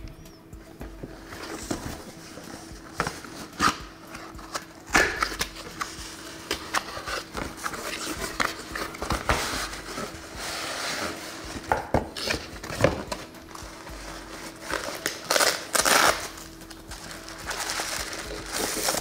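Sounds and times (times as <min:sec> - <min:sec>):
nylon case rustling: 0:00.8 - 0:19.0.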